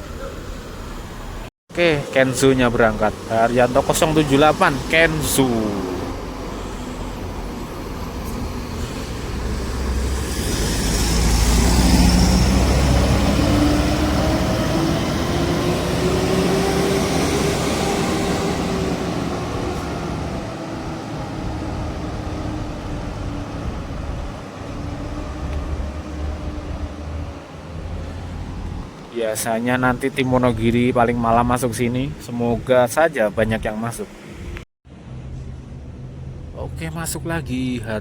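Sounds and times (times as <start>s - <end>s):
diesel bus engine accelerating: 0.0s - 38.0s.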